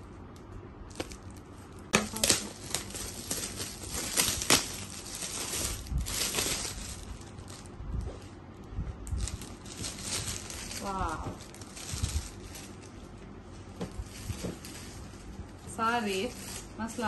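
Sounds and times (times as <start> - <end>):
foil wrap tearing and crumpling: 0.9 - 7.8, 9.0 - 13.0, 13.9 - 17.0.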